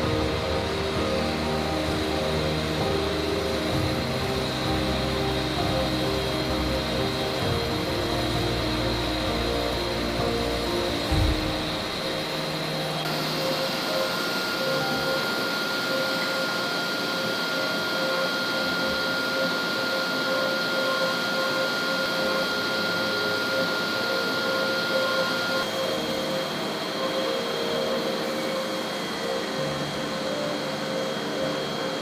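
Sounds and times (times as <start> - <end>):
pipe-making machine running: 0.0 - 32.0
steady machine whining tones: 0.0 - 32.0.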